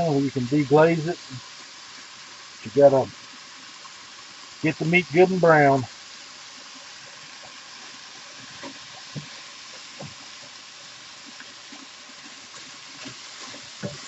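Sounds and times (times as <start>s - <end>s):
beef sizzling in a pan: 0.0s - 14.0s.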